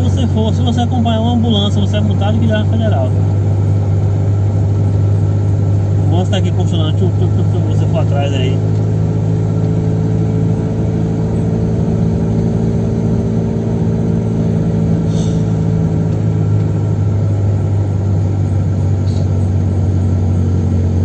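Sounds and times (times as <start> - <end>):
car engine droning: 0.0 - 21.0
road noise: 0.0 - 21.0.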